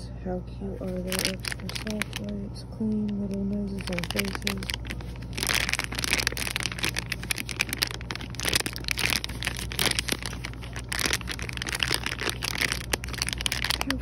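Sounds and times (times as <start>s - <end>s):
steady low hum: 0.0s - 14.0s
plastic packaging crinkling: 0.8s - 14.0s.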